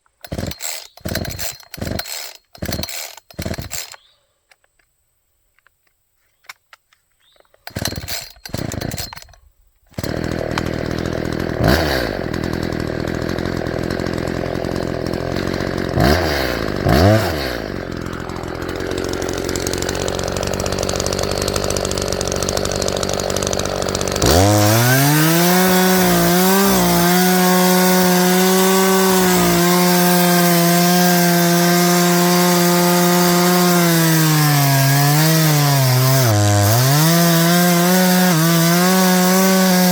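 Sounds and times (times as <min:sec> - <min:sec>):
chainsaw starter cord pulls: 0:00.0 - 0:04.6, 0:07.5 - 0:39.9
chainsaw engine revving: 0:00.2 - 0:04.0, 0:07.6 - 0:39.9.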